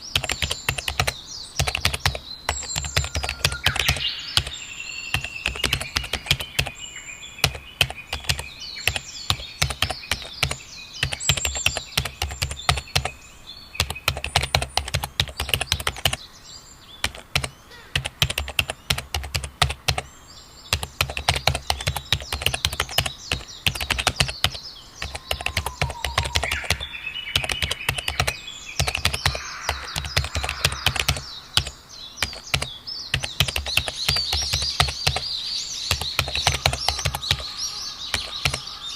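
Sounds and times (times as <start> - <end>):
birds chirping: 0.0 - 38.9
computer keyboard typing: 0.2 - 6.8, 7.4 - 13.1, 13.8 - 16.2, 17.0 - 20.1, 20.7 - 35.3, 35.9 - 37.5, 38.1 - 38.7.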